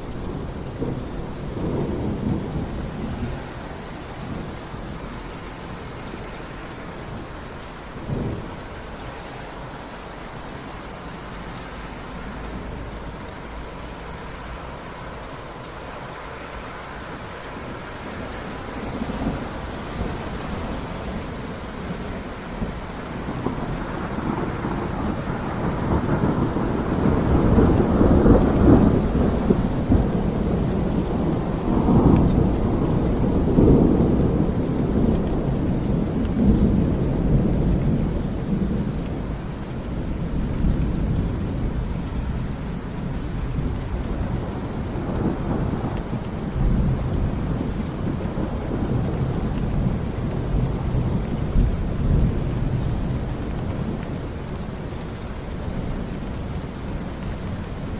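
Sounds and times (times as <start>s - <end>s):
steady rain: 0.0s - 57.9s
thunder rumbling: 0.0s - 57.9s.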